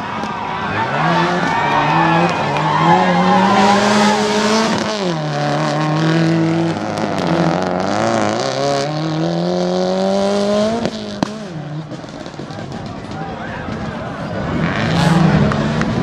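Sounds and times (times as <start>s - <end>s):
rally car engine revving: 0.2s - 13.2s, 13.8s - 16.0s.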